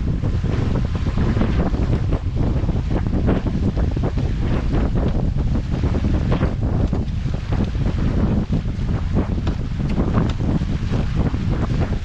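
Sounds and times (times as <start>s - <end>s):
water rushing along a hull: 0.0s - 12.0s
wind noise on microphone: 0.0s - 12.0s.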